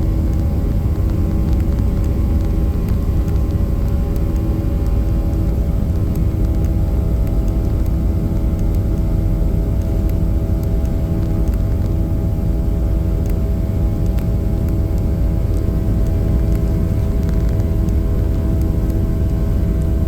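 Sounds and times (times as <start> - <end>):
jet engines roaring in cabin: 0.0 - 20.0.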